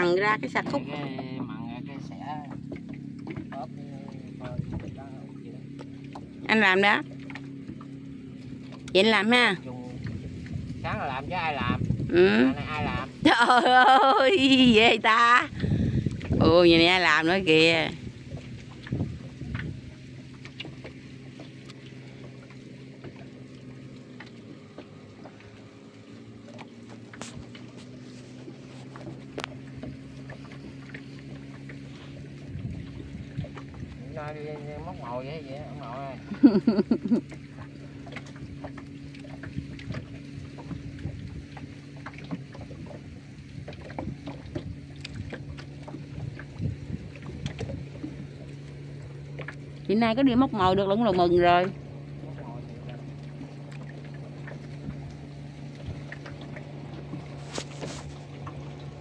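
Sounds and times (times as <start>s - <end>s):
boat engine idling: 0.0s - 59.0s
small splashes: 0.0s - 59.0s
water lapping against hull: 0.0s - 59.0s.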